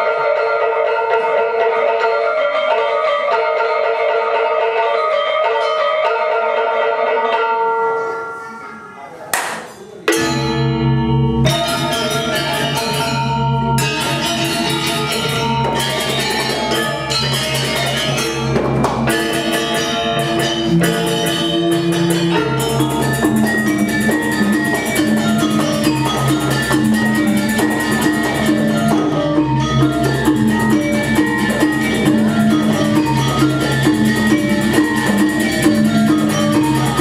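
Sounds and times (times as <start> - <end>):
gamelan music: 0.0 - 37.0
ringing metallophone tones: 0.0 - 37.0.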